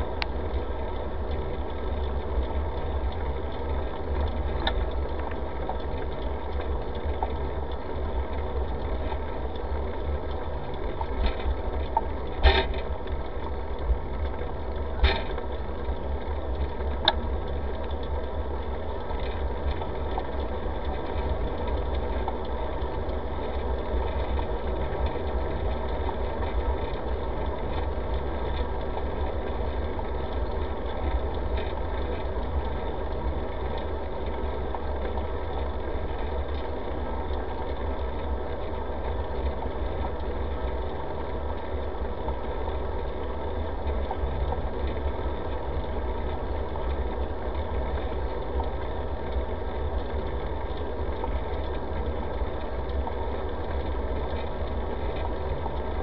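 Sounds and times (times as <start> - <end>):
bicycle rolling on asphalt: 0.0 - 56.0.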